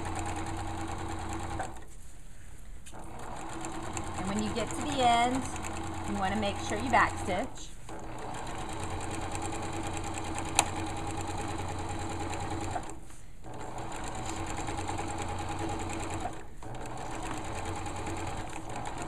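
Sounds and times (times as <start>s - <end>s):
electric sewing machine stitching: 0.0s - 1.8s, 3.0s - 19.0s.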